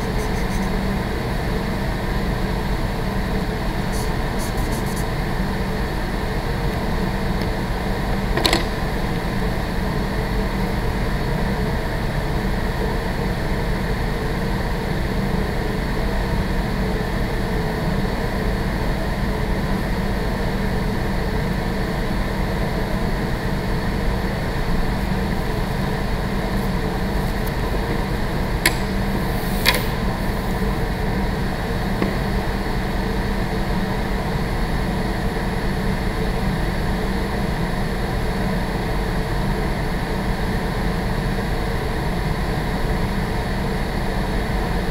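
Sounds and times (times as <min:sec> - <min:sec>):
ventilation rushing with low hum: 0:00.0 - 0:44.9.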